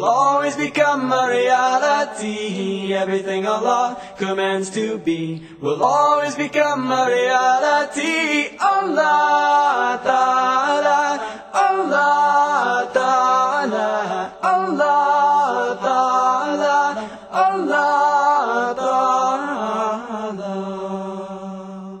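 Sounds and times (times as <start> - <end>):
held vocal drone: 0.0 - 22.0
voices singing a cappella: 0.0 - 22.0.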